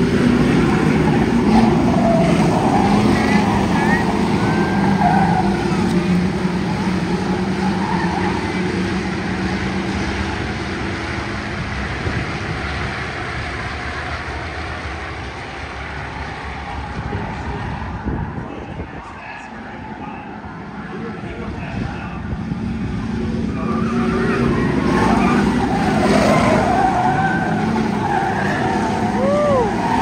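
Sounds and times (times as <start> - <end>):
race car engines passing: 0.0 - 30.0.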